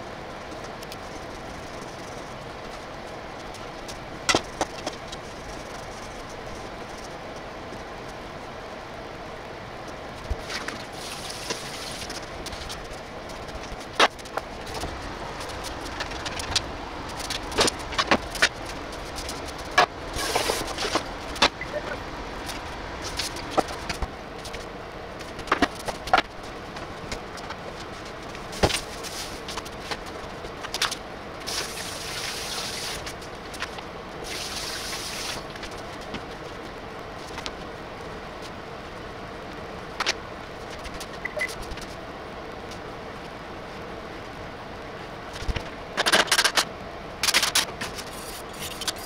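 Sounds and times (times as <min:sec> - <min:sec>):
steady hiss: 0:00.0 - 0:45.4.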